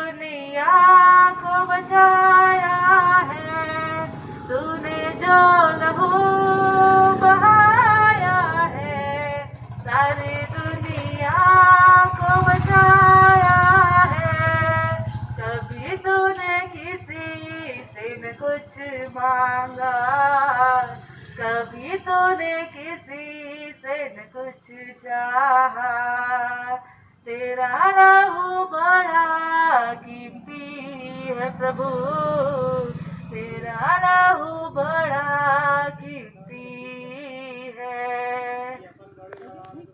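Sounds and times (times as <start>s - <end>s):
woman singing into a microphone: 0.0s - 38.9s.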